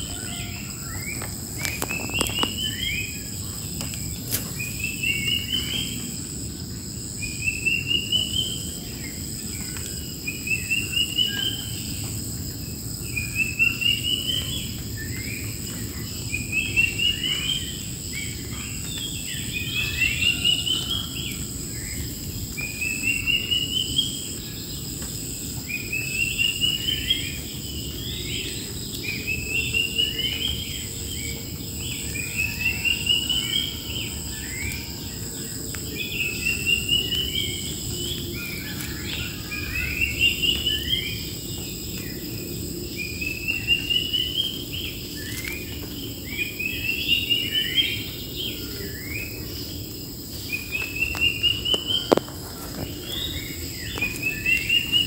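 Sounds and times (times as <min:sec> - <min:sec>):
bird singing trill: 0:00.0 - 0:12.0, 0:13.0 - 0:24.9, 0:25.6 - 0:55.0
insects whining: 0:00.0 - 0:55.0.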